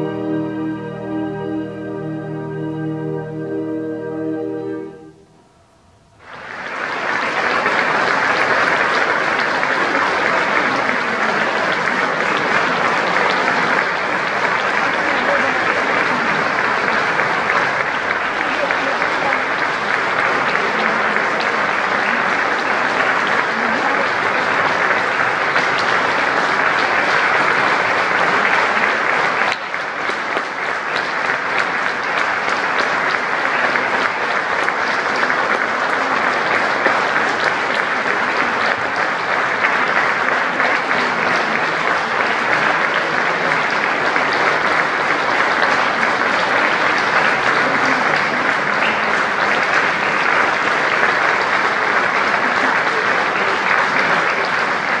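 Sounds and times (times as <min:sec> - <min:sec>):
audience applauding: 0:06.2 - 0:55.0.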